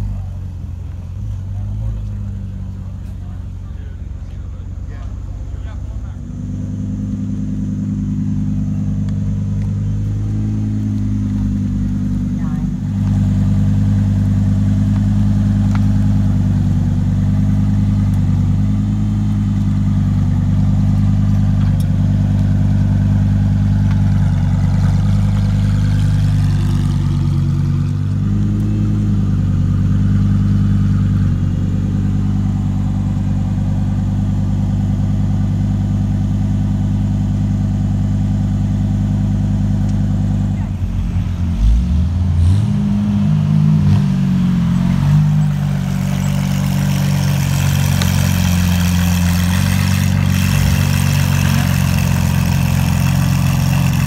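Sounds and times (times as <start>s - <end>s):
sports car engine idling: 0.0s - 54.0s.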